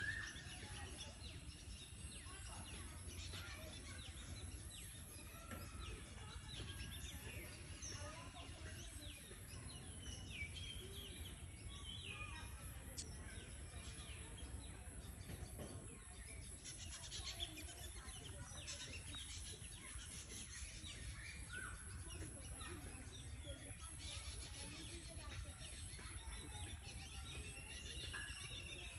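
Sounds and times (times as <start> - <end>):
birds chirping and calling: 0.0 - 28.9.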